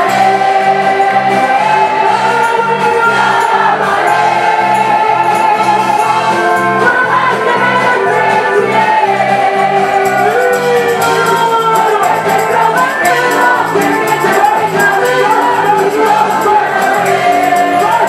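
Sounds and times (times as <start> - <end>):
bass line: 0.0 - 18.0
choir singing: 0.0 - 18.0.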